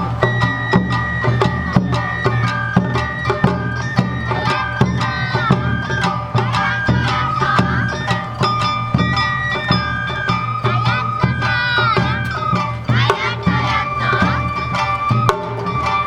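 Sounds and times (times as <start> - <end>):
bamboo flutes melody: 0.0 - 16.0
drums steady beat: 0.0 - 16.0.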